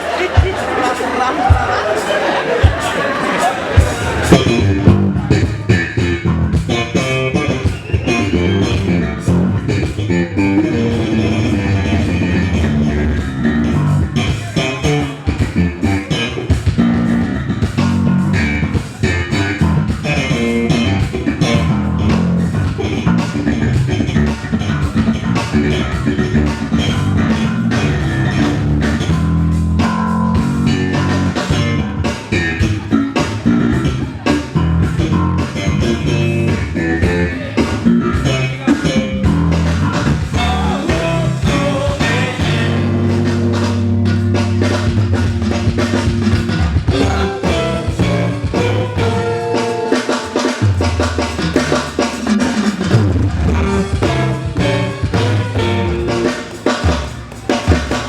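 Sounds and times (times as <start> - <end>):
drum kit groove: 0.0 - 58.0
funk band playing: 0.0 - 58.0.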